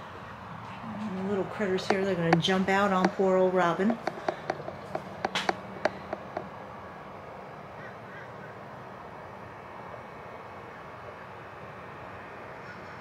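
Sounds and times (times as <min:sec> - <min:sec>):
outdoor ambience: 0:00.0 - 0:13.0.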